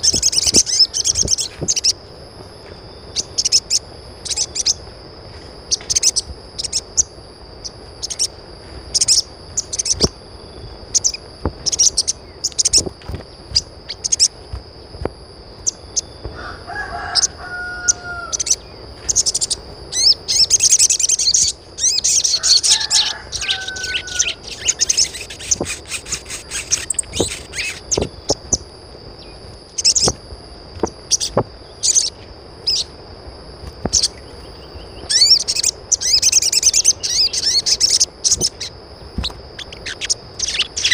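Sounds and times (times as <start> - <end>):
longer bird calls: 0.0 - 4.9, 5.7 - 30.2, 33.8 - 40.9
birds chirping: 0.0 - 33.0, 33.7 - 40.9.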